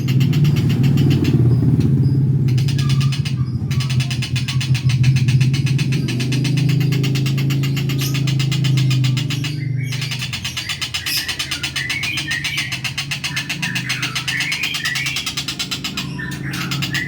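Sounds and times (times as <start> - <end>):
bird chirping: 0.0 - 17.0
low pulsing motor hum: 0.0 - 17.0.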